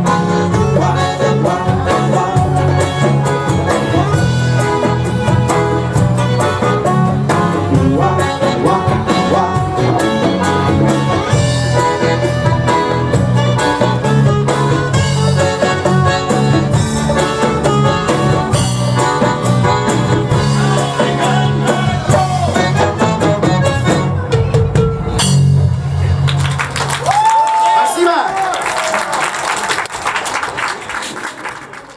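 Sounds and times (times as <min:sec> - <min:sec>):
live band instrumental music: 0:00.0 - 0:27.4.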